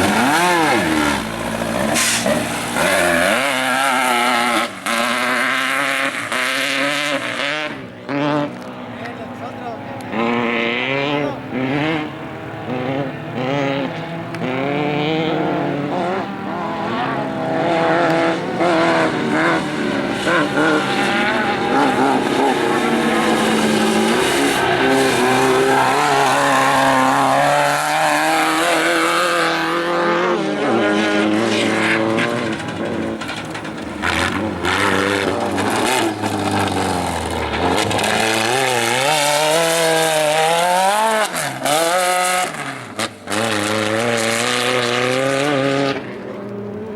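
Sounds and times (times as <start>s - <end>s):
race engines revving: 0.0s - 46.9s.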